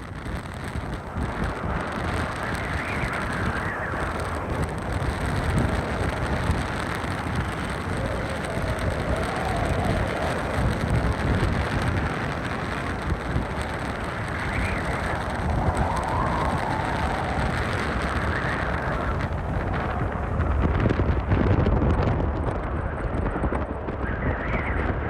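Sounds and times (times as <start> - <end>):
faint moaning wind whistle: 0.0 - 25.0
strong wind rushing: 0.0 - 25.0
wind buffeting microphone: 0.0 - 25.0.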